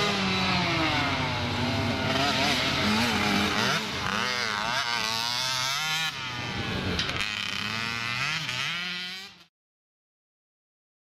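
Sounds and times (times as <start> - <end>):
motocross bike engines revving: 0.0 - 9.5.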